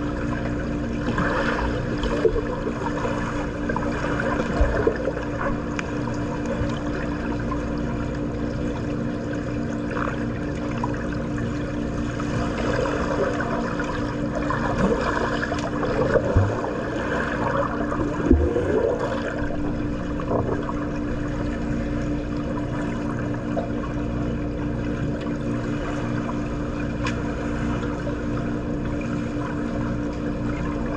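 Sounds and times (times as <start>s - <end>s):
low hum: 0.0s - 30.9s.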